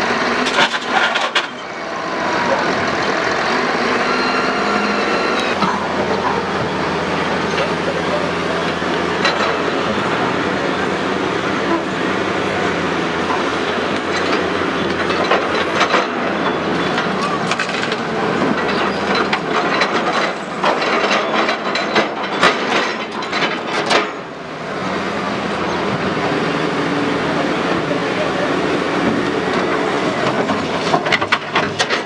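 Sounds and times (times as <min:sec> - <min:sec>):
excavator engine under load: 0:00.0 - 0:32.0.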